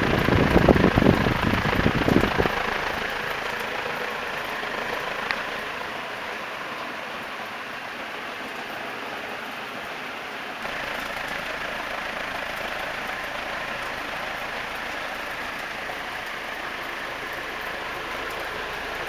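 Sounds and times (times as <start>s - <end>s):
ceiling fan air rush: 0.0s - 19.0s.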